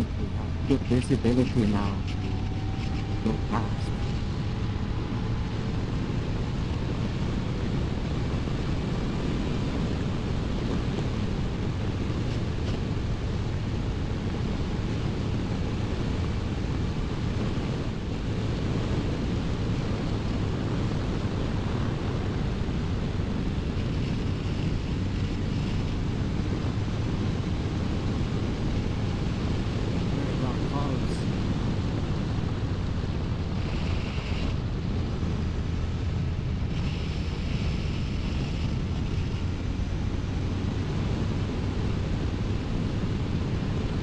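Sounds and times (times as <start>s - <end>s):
motorcycle engine cruising: 0.0s - 44.0s
wind rushing over microphone: 0.0s - 44.0s.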